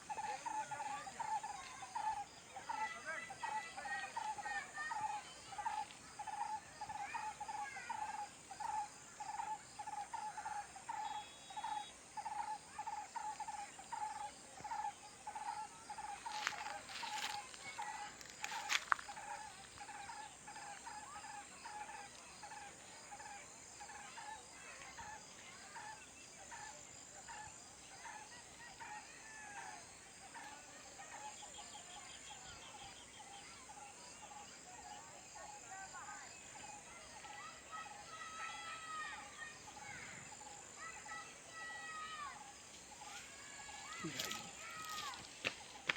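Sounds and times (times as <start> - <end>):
crickets trilling: 0.0 - 45.9
repeated insect call: 0.0 - 45.9.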